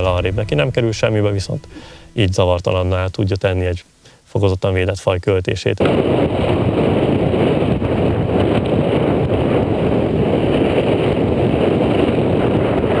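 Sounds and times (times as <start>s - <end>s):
wind buffeting microphone: 0.0s - 3.3s, 5.8s - 13.0s.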